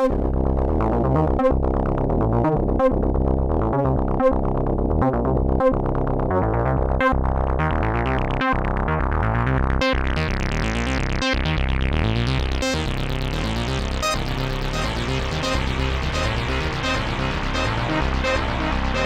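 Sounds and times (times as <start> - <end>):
synthesizer bass pattern: 0.0 - 19.0.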